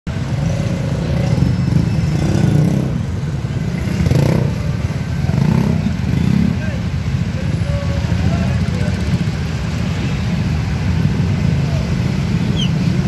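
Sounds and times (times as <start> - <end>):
motorcycle engines running: 0.1 - 13.0.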